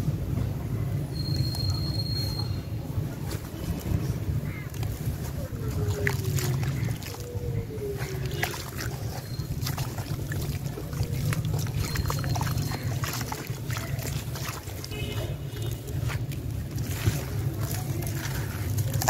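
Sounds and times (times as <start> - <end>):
hands splashing in muddy water: 1.4 - 19.0.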